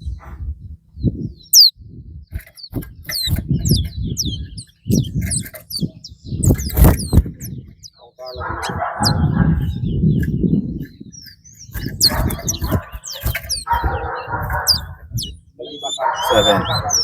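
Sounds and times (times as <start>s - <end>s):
songbirds chirping and whistling: 0.0s - 17.0s.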